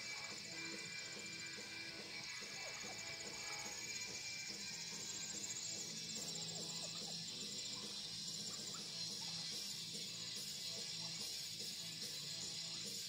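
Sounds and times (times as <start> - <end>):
faint music: 0.0 - 13.0
insects trilling: 0.0 - 13.0.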